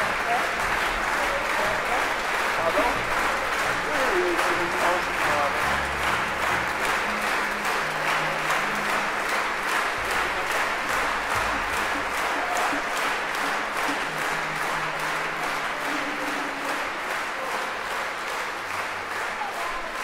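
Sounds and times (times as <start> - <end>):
audience applauding in rhythm: 0.0 - 20.0.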